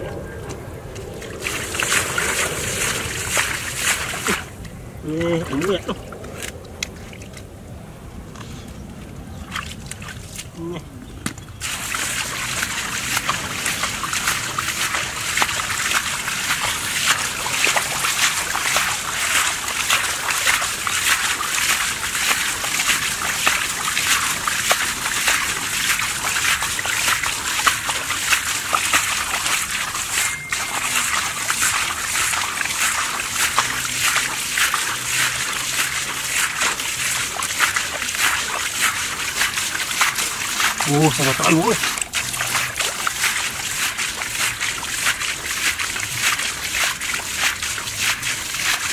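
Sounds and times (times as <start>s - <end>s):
hands splashing in muddy water: 1.0s - 7.4s, 9.4s - 10.8s, 11.6s - 48.9s.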